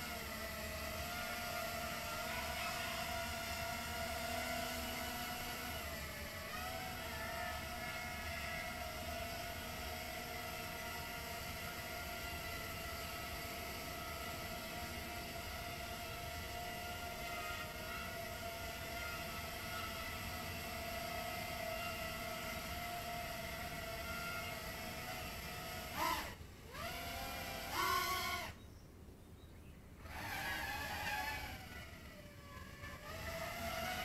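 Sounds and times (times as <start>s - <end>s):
quadcopter motors whining: 0.0s - 28.8s, 29.9s - 34.0s.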